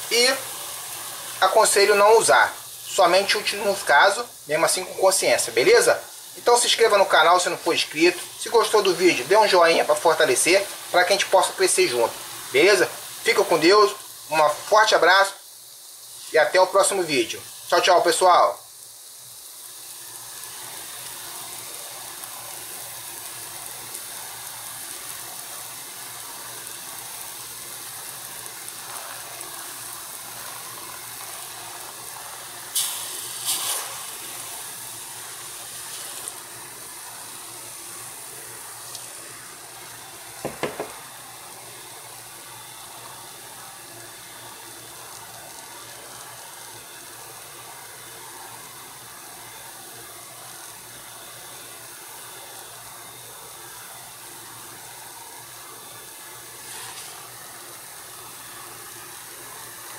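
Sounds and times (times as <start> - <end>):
liquid fizzing: 0.0 - 51.6.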